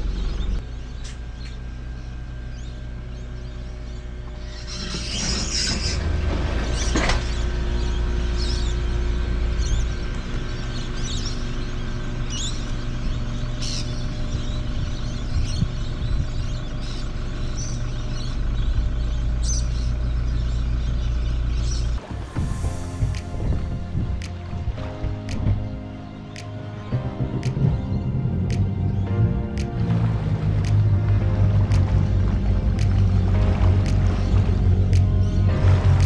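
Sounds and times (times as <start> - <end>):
birds chirping: 0.0 - 36.0
engine idling: 0.0 - 36.0.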